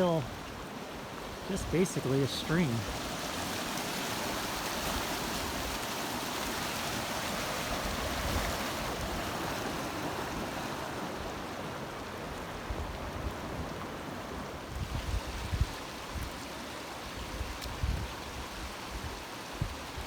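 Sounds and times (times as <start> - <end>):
stream water flowing: 0.0 - 20.0.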